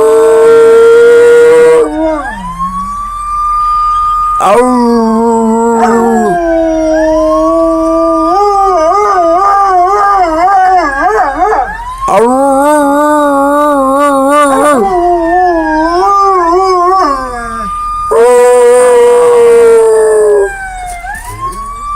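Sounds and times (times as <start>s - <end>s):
dogs howling: 0.0s - 2.9s, 4.8s - 20.6s.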